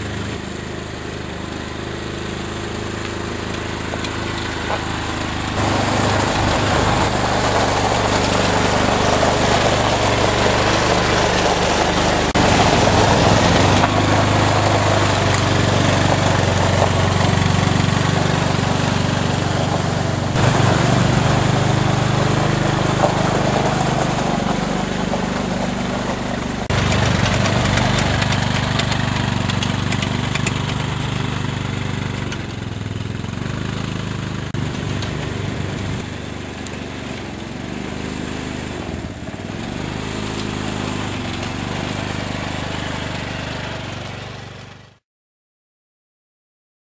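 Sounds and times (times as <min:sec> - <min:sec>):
quad bike engine running: 0:00.0 - 0:45.0.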